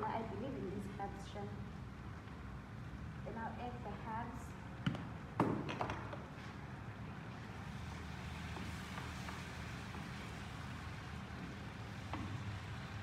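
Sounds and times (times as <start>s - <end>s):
low stove background noise: 0.0s - 5.4s, 6.2s - 13.0s.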